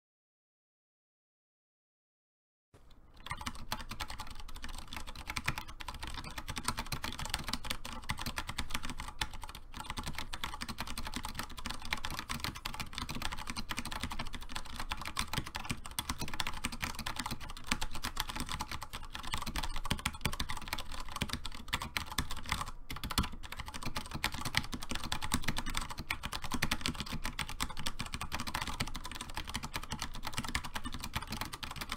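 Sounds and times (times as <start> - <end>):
fast mechanical keyboard typing: 3.2 - 31.9.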